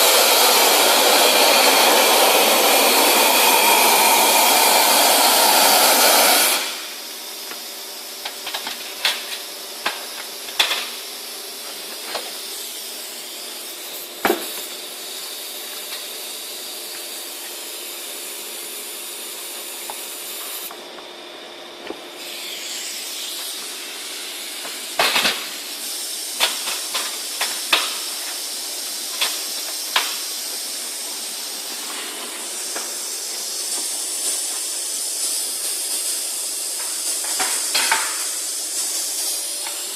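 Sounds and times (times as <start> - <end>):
vacuum cleaner hissing: 0.0 - 21.0, 21.6 - 39.9.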